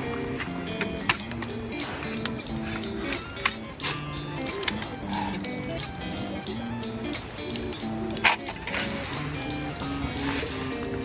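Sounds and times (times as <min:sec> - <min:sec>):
background music with a beat: 0:00.0 - 0:11.0.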